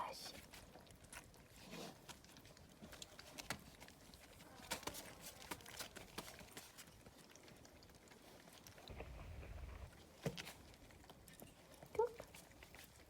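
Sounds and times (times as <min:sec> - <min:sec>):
puppies eating with small taps: 0:00.1 - 0:13.0.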